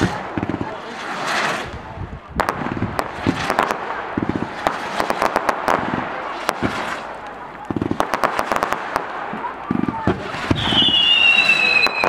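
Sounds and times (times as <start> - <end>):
hiss of burning fireworks: 0.0 - 12.0
rapid sharp firework crackles: 0.0 - 12.0.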